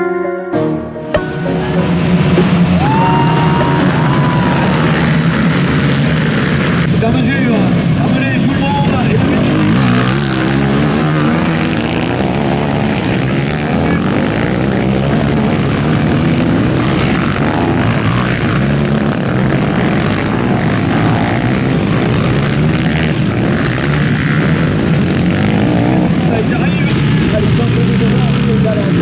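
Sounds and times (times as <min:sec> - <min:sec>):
quad engines revving: 0:01.8 - 0:29.0.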